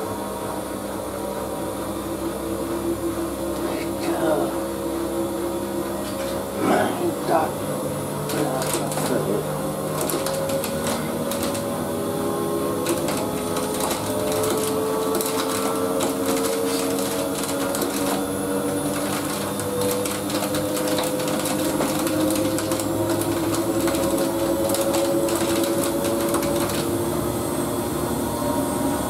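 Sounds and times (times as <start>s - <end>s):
washing machine motor whining: 0.0s - 29.0s.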